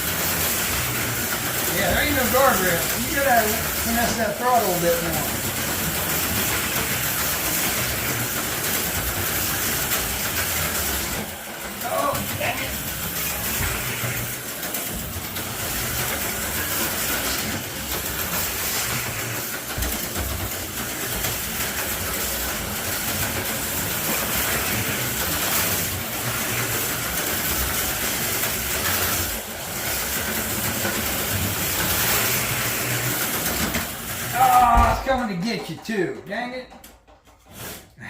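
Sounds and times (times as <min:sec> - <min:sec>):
slot cars whirring and rattling: 0:00.0 - 0:38.0.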